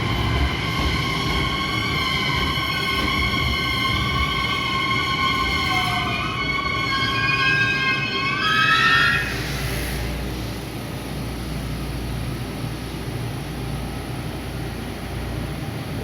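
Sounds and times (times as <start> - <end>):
train running rumble: 0.0 - 7.4, 9.2 - 16.0.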